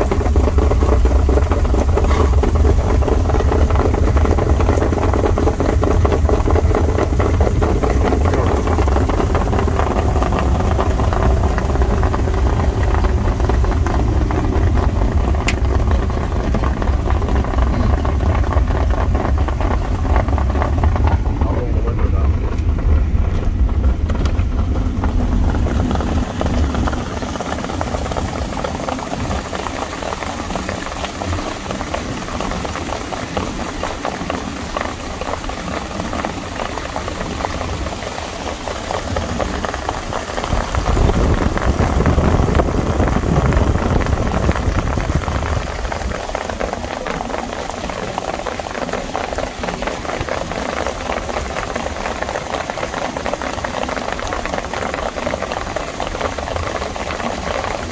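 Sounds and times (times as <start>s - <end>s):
car engine running: 0.0s - 57.9s
road and wind noise: 0.0s - 57.9s.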